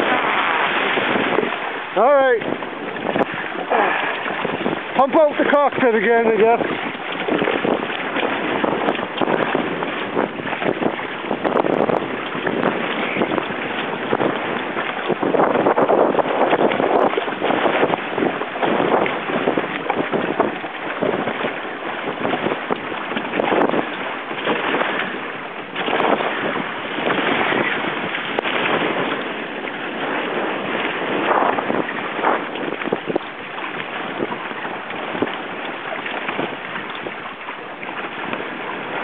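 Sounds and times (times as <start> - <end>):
water splashing along hull: 0.0 - 39.0
wind buffeting microphone: 0.0 - 39.0.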